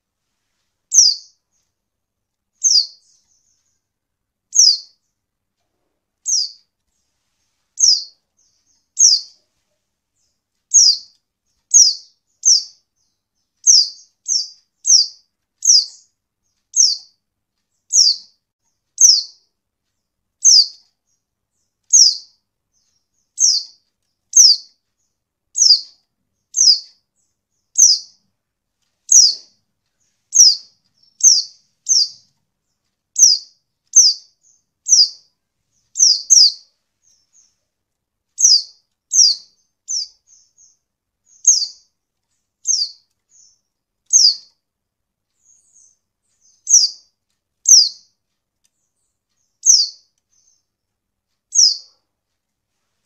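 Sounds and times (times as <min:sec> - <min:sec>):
bird high chirps: 0:00.9 - 0:01.7, 0:02.5 - 0:03.9, 0:04.5 - 0:05.2, 0:06.2 - 0:07.1, 0:07.7 - 0:09.6, 0:10.2 - 0:19.5, 0:20.4 - 0:28.3, 0:29.0 - 0:37.6, 0:38.4 - 0:42.0, 0:42.6 - 0:44.6, 0:45.4 - 0:48.2, 0:48.8 - 0:50.8, 0:51.5 - 0:52.0.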